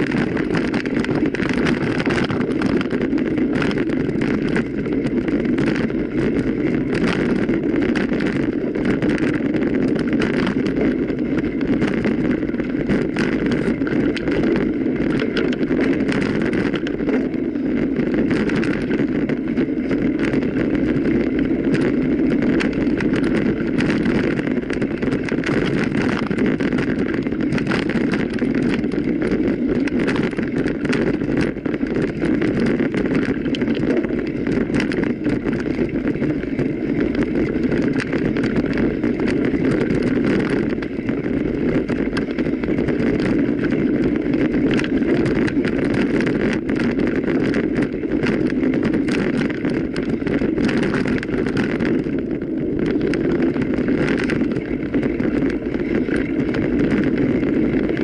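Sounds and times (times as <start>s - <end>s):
bike rattles and clicks: 0.0s - 58.0s
tyres rolling on trail: 0.0s - 58.0s
wind on microphone: 0.0s - 58.0s.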